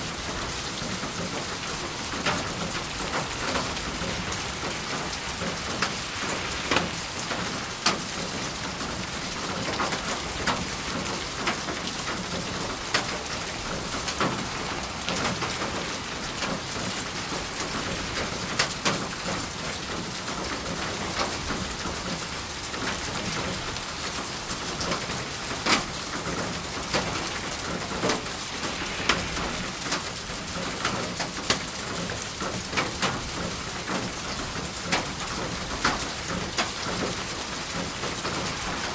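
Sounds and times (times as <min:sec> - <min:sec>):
rain hiss: 0:00.0 - 0:38.9.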